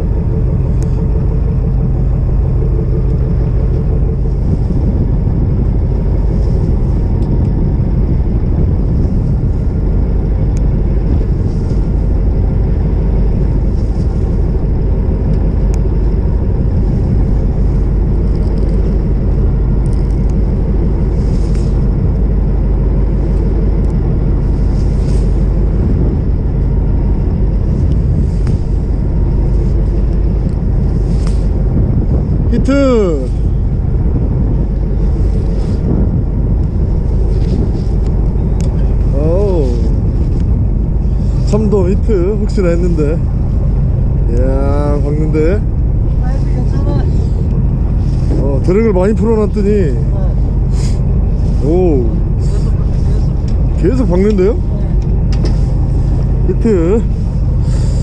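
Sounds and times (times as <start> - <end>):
boat engine idling: 0.0 - 58.0
wind noise on microphone: 0.0 - 58.0.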